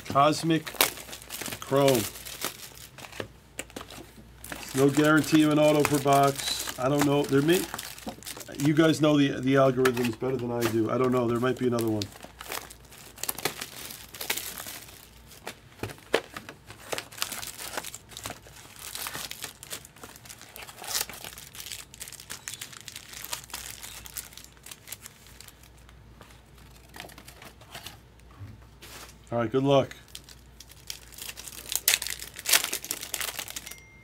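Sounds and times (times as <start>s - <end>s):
foil packs crinkling: 0.0s - 27.9s, 29.8s - 33.8s.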